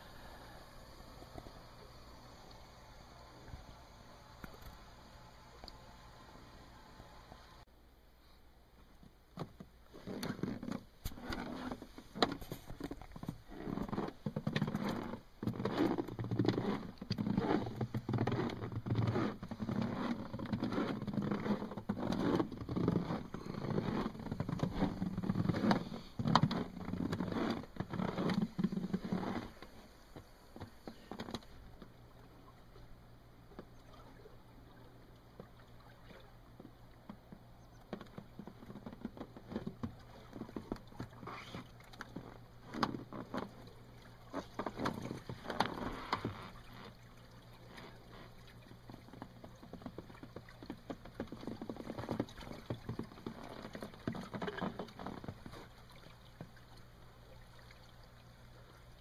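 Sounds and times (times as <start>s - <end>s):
faint steady hum: 0.0s - 59.0s
low rumble on microphone: 9.9s - 59.0s.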